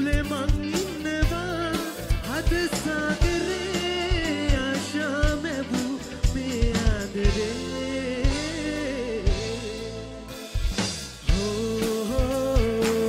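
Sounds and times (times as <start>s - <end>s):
man singing: 0.0s - 10.4s, 11.2s - 13.0s
drum kit steady beat: 0.0s - 13.0s
electric guitar: 0.0s - 13.0s.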